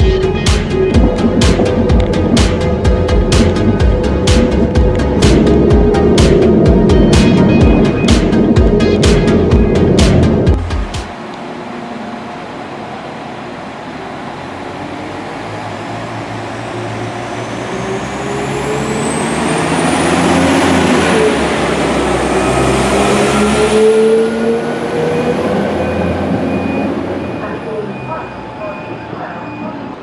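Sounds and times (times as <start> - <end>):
diesel train engine rumbling: 0.0 - 30.0
train whine rising in pitch: 0.0 - 30.0.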